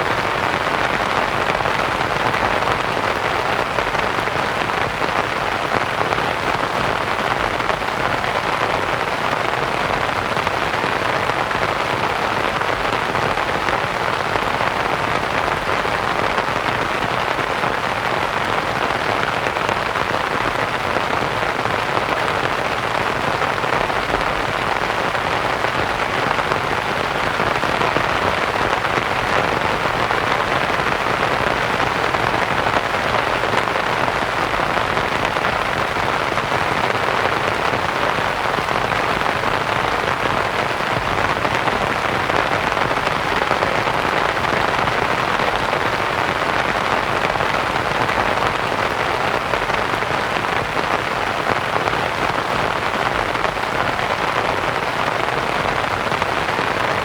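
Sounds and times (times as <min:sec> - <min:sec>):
rain on a canvas tent: 0:00.0 - 0:57.0.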